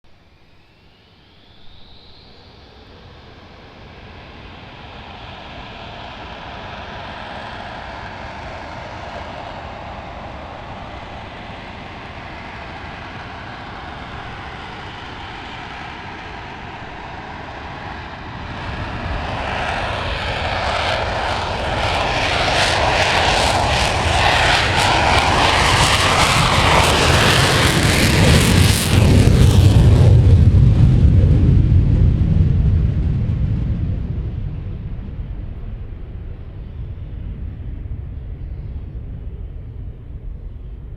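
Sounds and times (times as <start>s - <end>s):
jet engine whine: 0.0s - 40.9s
crackling afterburner roar: 3.5s - 40.9s.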